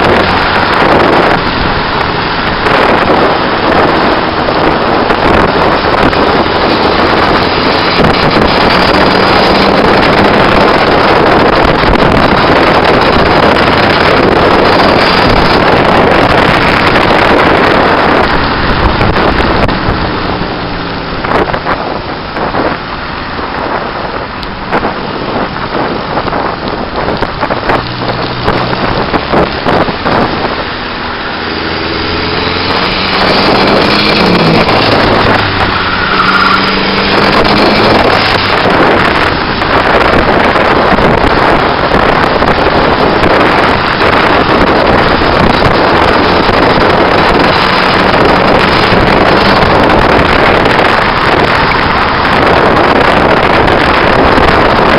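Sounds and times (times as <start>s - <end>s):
car engine revving: 0.0s - 54.9s
tyre and road noise: 0.0s - 54.9s
wind buffeting microphone: 0.0s - 54.9s.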